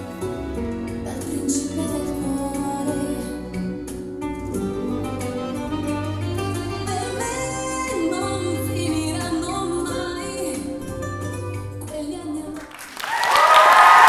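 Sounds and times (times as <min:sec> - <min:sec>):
deep bass notes: 0:00.0 - 0:12.3
slow love song: 0:00.0 - 0:12.8.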